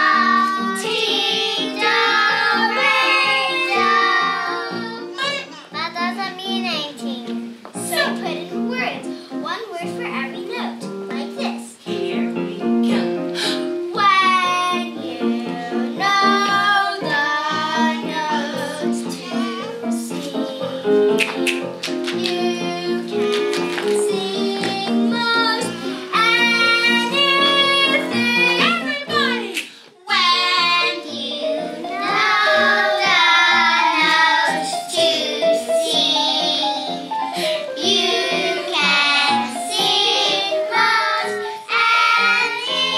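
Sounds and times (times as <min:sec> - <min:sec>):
girl singing: 0:00.0 - 0:07.2, 0:13.9 - 0:21.2, 0:22.2 - 0:42.9
instrumental accompaniment: 0:00.0 - 0:42.9.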